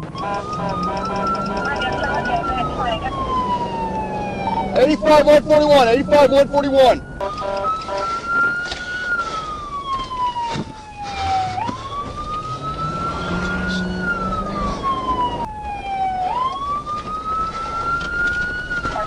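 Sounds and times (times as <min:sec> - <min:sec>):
emergency vehicle siren wailing: 0:00.0 - 0:19.0.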